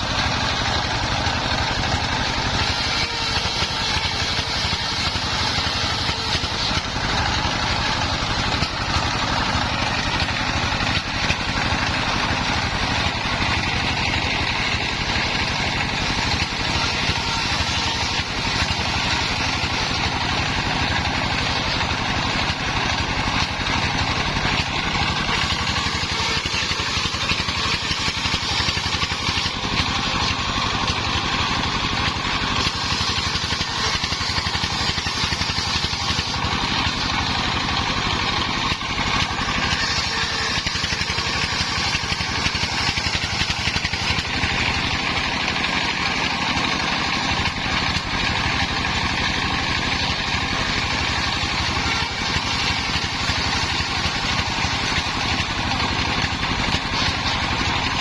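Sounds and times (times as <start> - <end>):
circular saw cutting wood: 0.0 - 58.0
engine running: 0.0 - 58.0.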